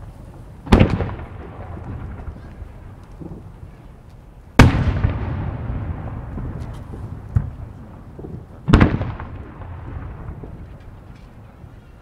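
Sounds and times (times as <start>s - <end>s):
rumble of echo: 0.0s - 12.0s
firework shells booming: 0.6s - 3.7s, 4.6s - 11.4s.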